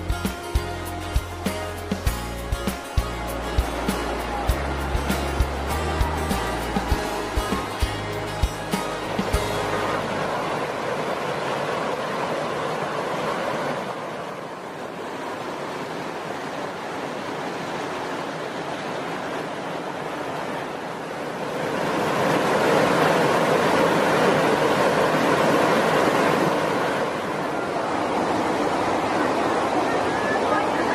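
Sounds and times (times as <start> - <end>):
stream rushing over boulders: 0.0 - 30.9.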